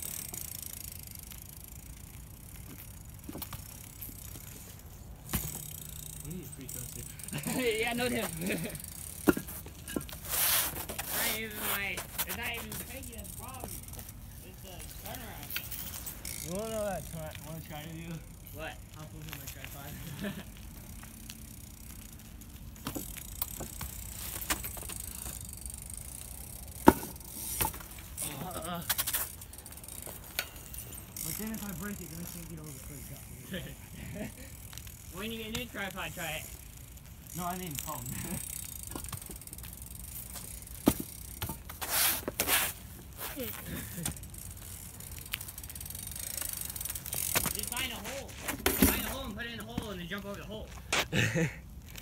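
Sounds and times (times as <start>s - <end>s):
bike rolling on asphalt: 0.0s - 52.0s.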